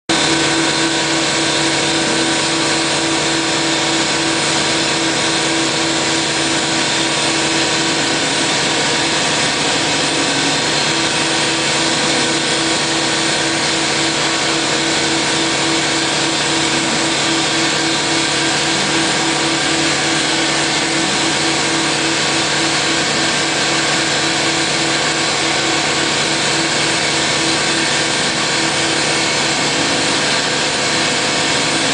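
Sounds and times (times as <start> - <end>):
cnc router whine and hum: 0.1 - 31.9.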